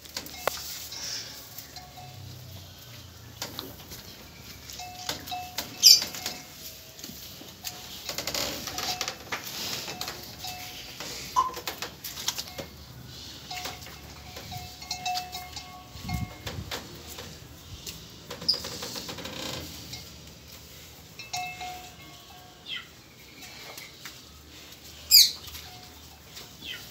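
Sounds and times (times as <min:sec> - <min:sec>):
cattle rustling hay: 0:00.0 - 0:02.1, 0:02.8 - 0:26.9.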